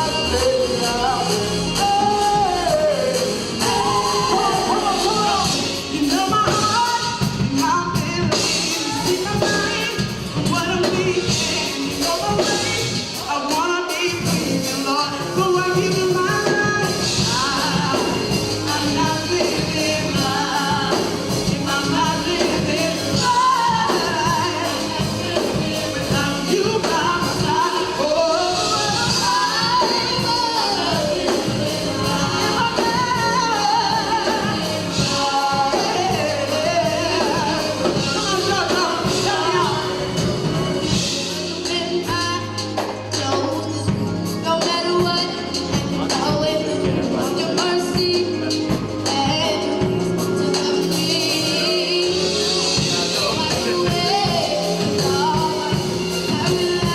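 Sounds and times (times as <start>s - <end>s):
gospel singing over band: 0.0s - 56.9s.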